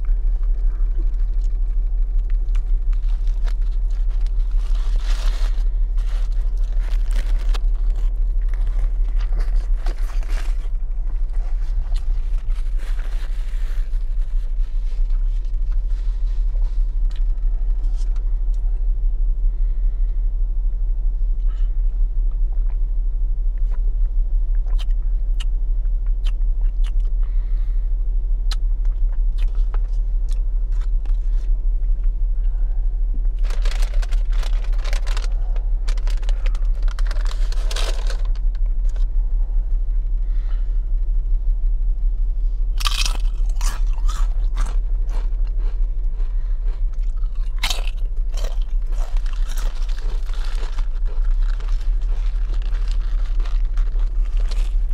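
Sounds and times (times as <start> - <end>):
crunching of food: 0.0 - 18.7, 24.5 - 27.8, 28.5 - 40.6, 42.6 - 54.9
steady low rumble: 0.0 - 54.9.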